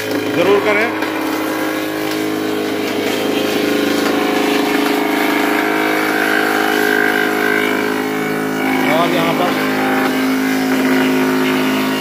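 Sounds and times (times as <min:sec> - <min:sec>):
woodworking machine running: 0:00.0 - 0:12.0.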